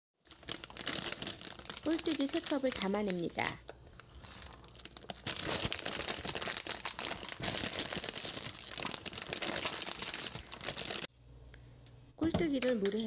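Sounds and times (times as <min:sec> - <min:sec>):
plastic bag crinkling: 0:00.2 - 0:11.1.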